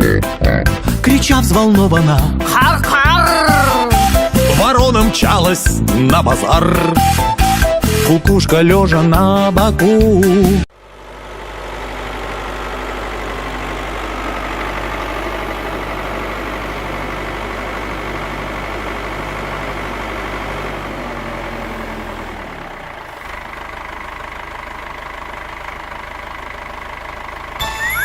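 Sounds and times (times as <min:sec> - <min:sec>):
cartoon vehicle engine idling: 0:00.0 - 0:28.0.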